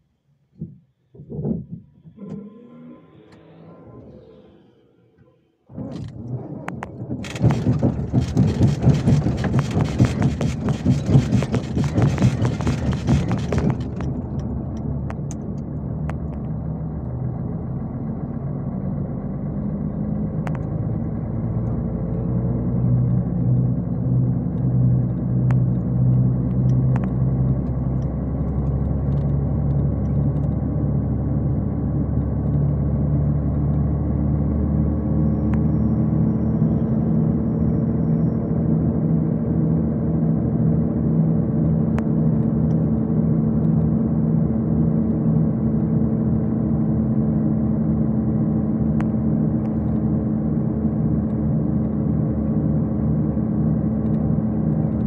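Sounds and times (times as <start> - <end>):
bus engine and road noise drone: 1.2 - 55.0.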